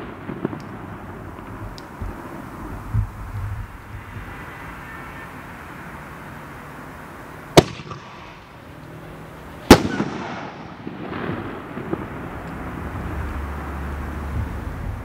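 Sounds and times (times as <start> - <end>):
firework bangs: 0.0 - 15.0
firework crackle: 0.0 - 15.0.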